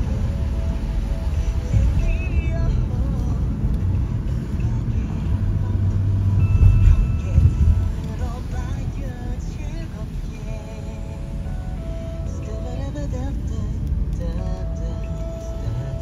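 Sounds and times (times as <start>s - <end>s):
car road and engine rumble: 0.0s - 16.0s
faint car radio music: 0.0s - 16.0s.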